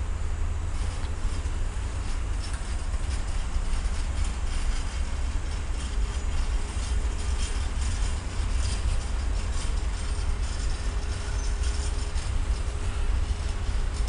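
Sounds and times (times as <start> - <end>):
train wheels rumbling on rail: 0.0 - 14.0
wagons clicking and knocking: 0.7 - 14.0.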